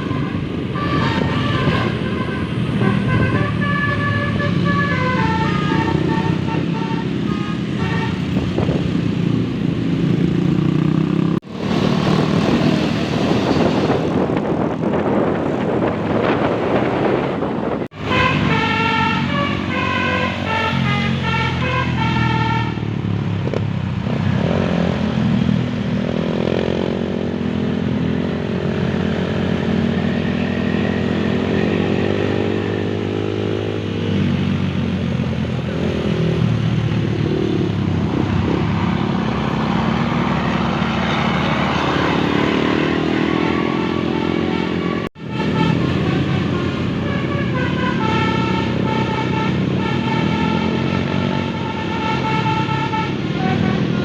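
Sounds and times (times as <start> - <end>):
vehicle engines speeding up: 0.0 - 54.0.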